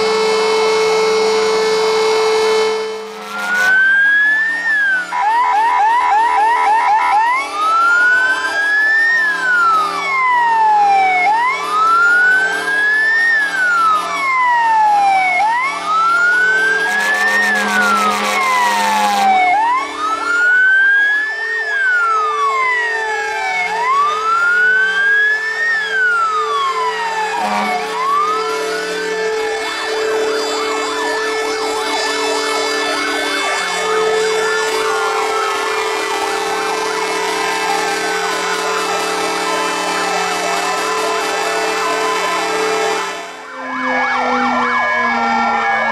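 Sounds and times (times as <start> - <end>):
fire engine sirens wailing: 0.0 - 45.9.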